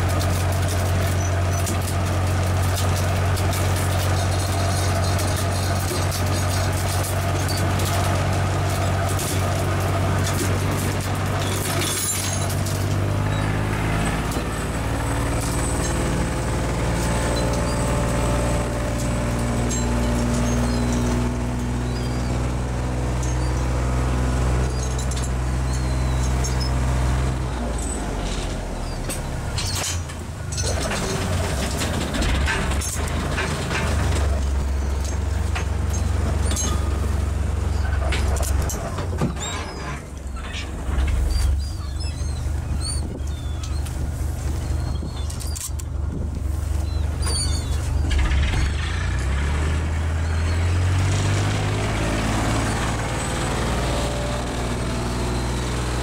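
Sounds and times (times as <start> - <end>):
boat diesel engine running: 0.0 - 56.0.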